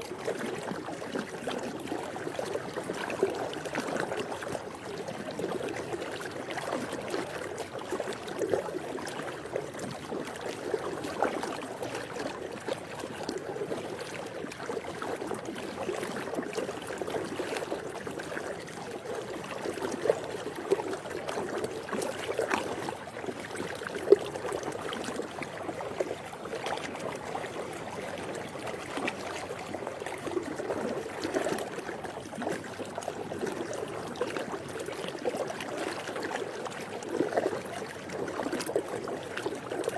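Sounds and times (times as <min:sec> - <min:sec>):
trickling water: 0:00.0 - 0:39.9
water splashes and drips: 0:00.0 - 0:39.9.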